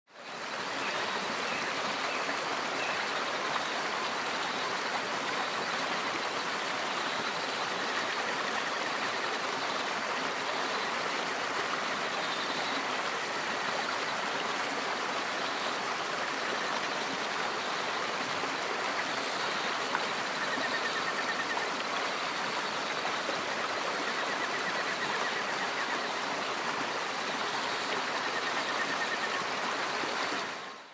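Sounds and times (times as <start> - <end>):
creek rushing over rocks: 0.1 - 30.9.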